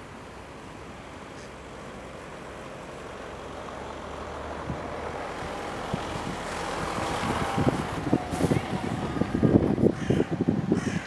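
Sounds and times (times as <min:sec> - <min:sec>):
heavy vehicle approaching: 0:00.0 - 0:10.9
road traffic: 0:00.0 - 0:11.0.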